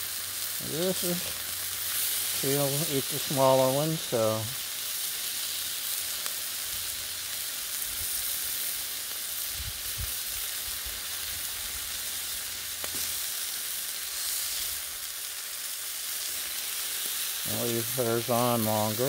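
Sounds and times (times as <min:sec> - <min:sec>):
meat sizzling on griddle: 0:00.0 - 0:19.0.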